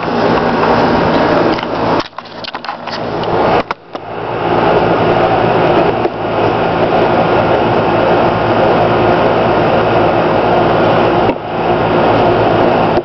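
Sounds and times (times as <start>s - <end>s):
air conditioner unit droning: 0.0s - 13.0s.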